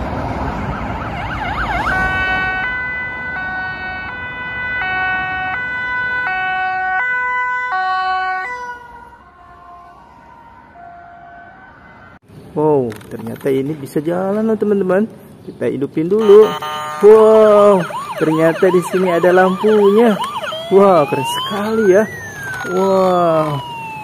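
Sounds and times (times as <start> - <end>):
ambulance siren: 0.0 - 12.2, 16.2 - 24.0
road traffic: 0.0 - 24.0.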